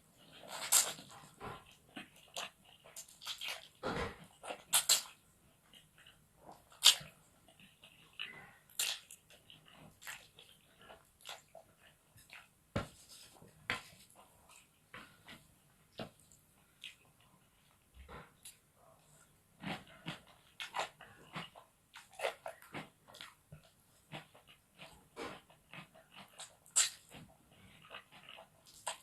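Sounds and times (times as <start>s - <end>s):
wet mouth chewing noodles: 0.2s - 12.5s, 16.1s - 29.0s.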